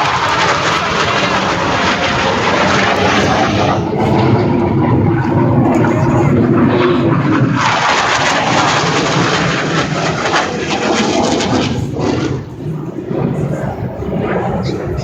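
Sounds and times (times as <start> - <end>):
jet aircraft flying past: 0.0 - 15.0.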